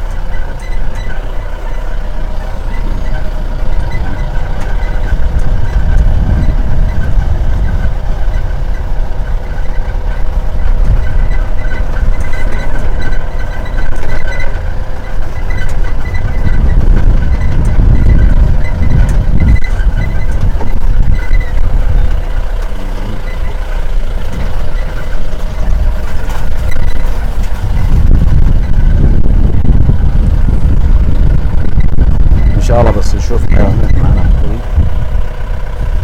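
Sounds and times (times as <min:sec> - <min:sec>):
vehicle engine on rough track: 0:00.0 - 0:36.0.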